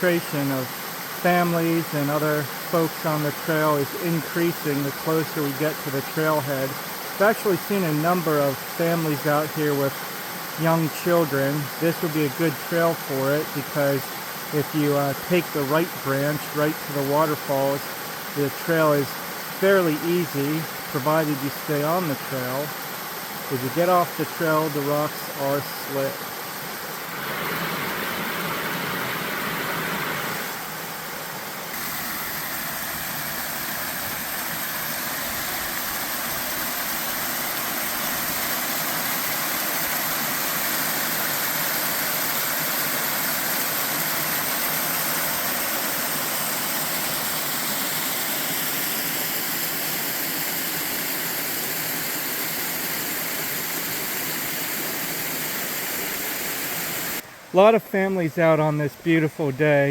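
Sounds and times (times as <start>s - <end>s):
water rushing over waterfalls: 0.0s - 59.9s.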